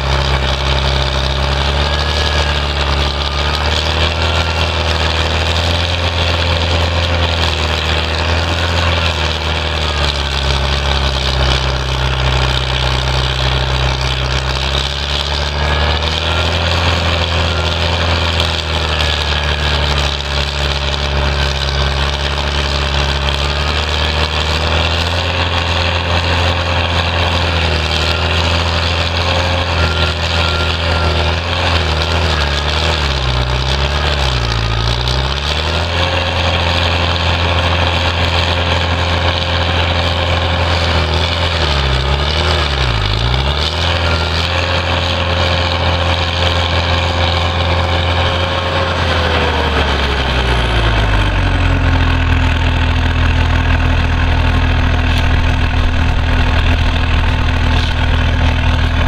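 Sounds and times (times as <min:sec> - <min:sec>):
stump grinder running under load: 0:00.0 - 0:59.0.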